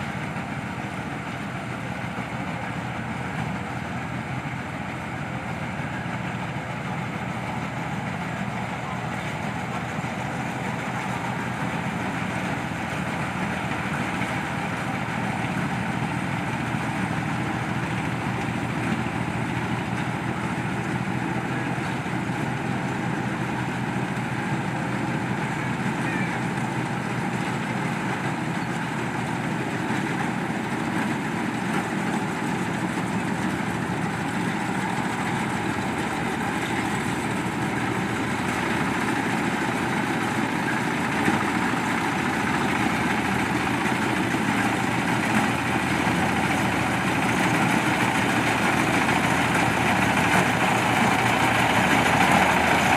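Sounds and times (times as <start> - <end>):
combine harvester running: 0.0 - 52.9.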